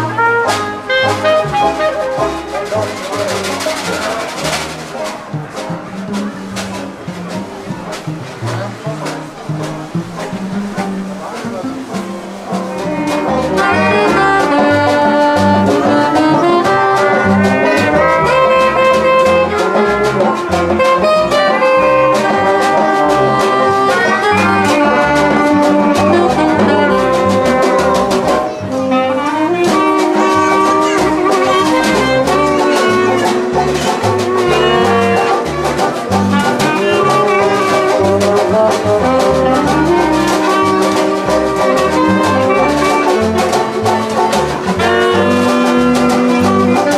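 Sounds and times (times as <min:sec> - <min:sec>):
steady bass beat: 0:00.0 - 0:28.6, 0:29.4 - 0:46.9
brass band playing jazz: 0:00.0 - 0:46.9
trombone: 0:00.0 - 0:46.9
trumpet: 0:00.0 - 0:46.9.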